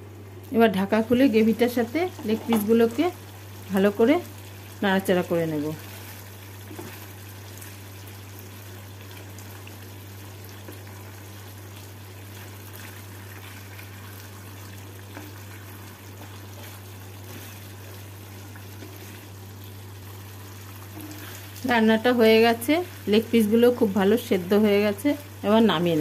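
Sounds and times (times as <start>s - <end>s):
gravy bubbling in a pan: 1.3s - 26.0s.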